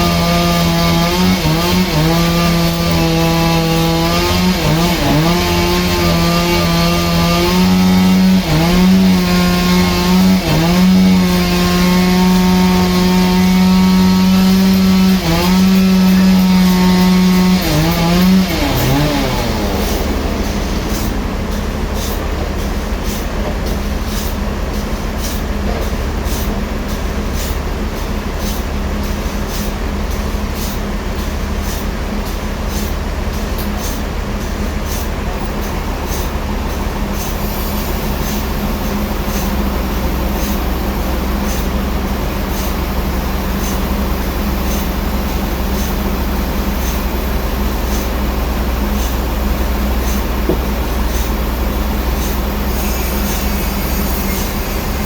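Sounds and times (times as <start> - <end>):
sawmill saw cutting log: 0.0 - 25.5, 32.6 - 55.0.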